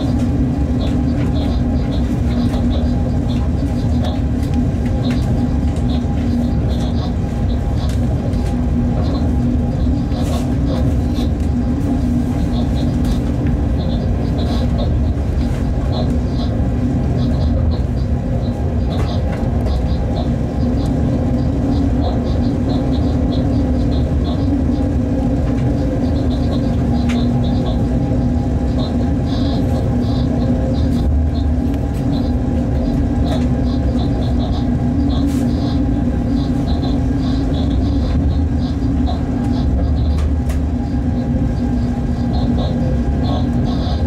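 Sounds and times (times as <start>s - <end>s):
train rumble in locomotive cab: 0.0s - 44.0s.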